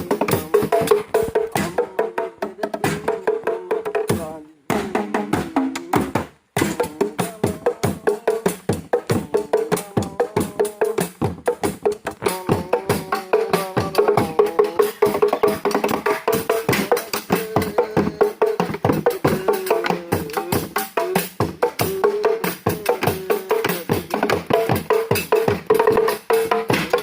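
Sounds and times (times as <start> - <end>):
fast percussion strikes: 0.0 - 27.0.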